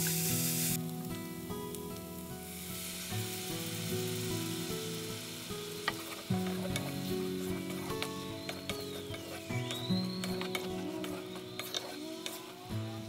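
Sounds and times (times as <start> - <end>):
background music: 0.0 - 13.0
stir-fry sizzling in a wok: 0.0 - 13.0.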